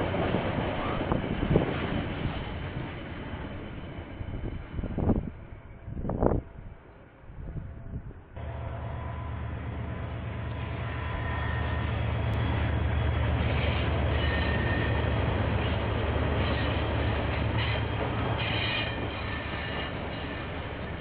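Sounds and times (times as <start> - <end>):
wheels squealing on rails: 0.0 - 5.1, 8.4 - 21.0
diesel locomotives rumbling: 0.0 - 21.0.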